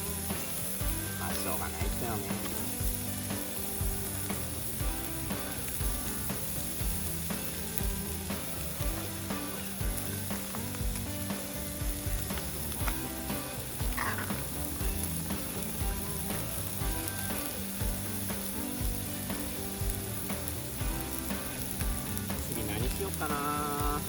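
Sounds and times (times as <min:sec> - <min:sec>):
campfire crackling: 0:00.0 - 0:24.0
meat sizzling on hot plate: 0:00.0 - 0:24.0.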